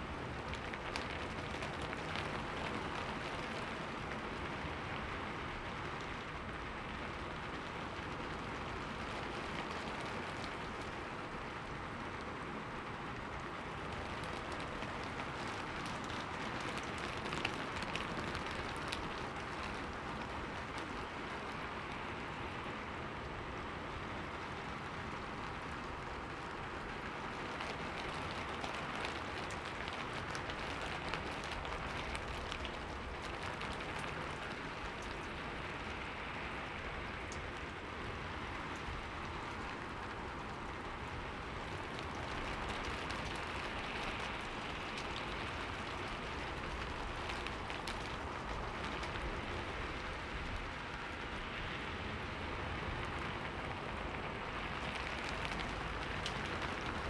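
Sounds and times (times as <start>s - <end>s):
rain on window pane: 0.0s - 57.0s.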